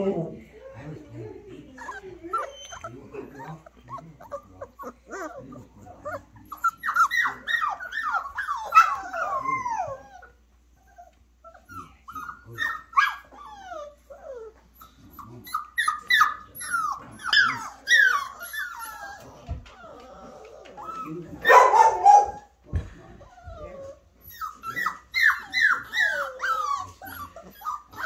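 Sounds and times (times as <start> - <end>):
puppies whining and yelping: 0.6 - 21.6, 23.1 - 28.0.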